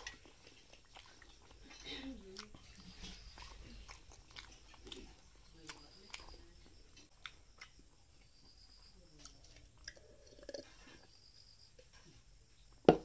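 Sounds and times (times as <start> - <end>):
soft chewing: 0.0 - 12.8.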